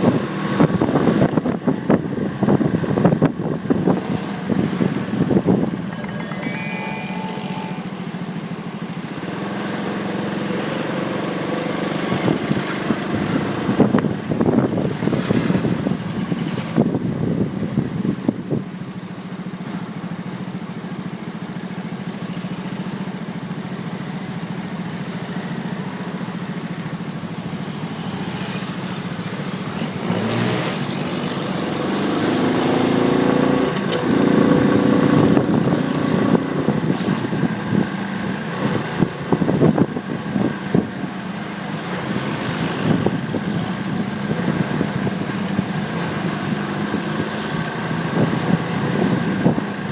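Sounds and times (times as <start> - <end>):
road and wind noise: 0.0 - 5.9, 10.3 - 49.9.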